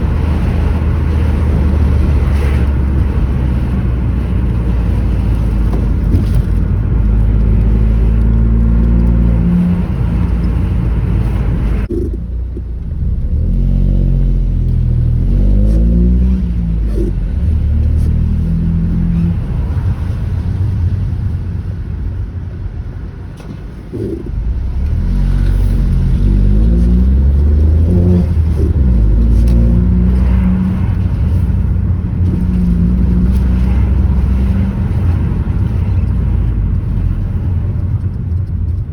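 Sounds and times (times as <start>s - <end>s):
car engine revving: 0.0s - 20.7s, 23.4s - 38.8s.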